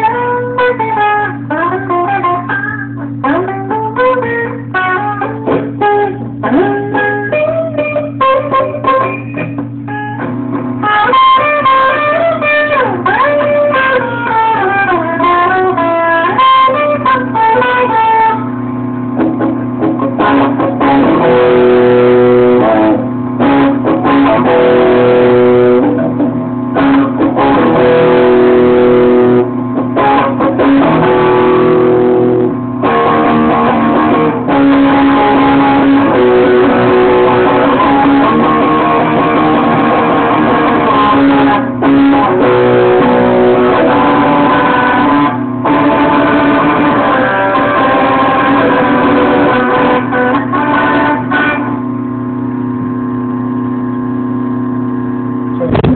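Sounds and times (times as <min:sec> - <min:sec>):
guitar plucked notes and chords: 0:00.0 - 0:55.9.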